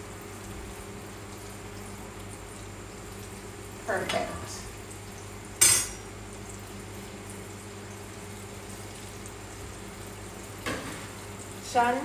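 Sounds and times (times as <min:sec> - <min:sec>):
oil bubbling and sizzling: 0:00.0 - 0:12.0.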